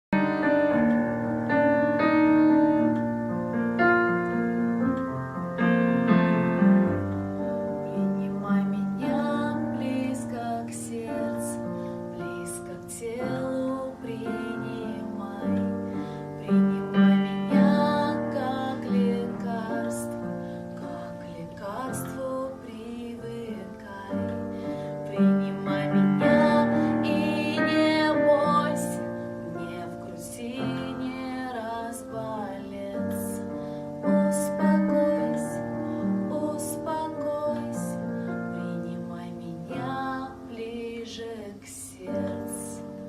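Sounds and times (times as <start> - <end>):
woman singing: 0.1 - 3.2, 6.9 - 43.0
slow piano ballad: 0.1 - 43.0.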